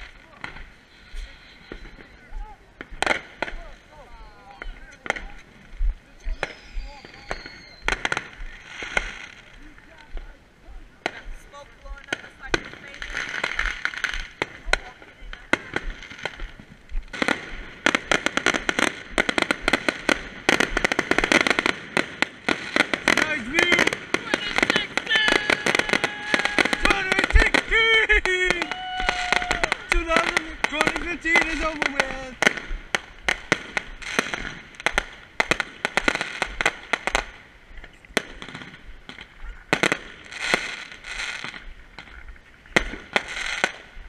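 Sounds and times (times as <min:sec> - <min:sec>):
firework bangs: 0:00.0 - 0:10.3, 0:11.0 - 0:44.0
fireworks crackling: 0:00.0 - 0:44.0.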